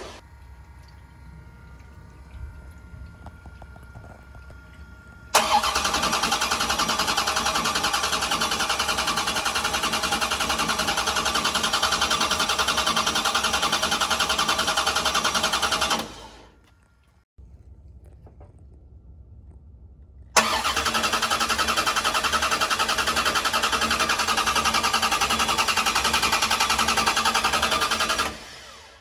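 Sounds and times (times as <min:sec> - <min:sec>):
engine running with even pulsing: 0:00.0 - 0:29.0.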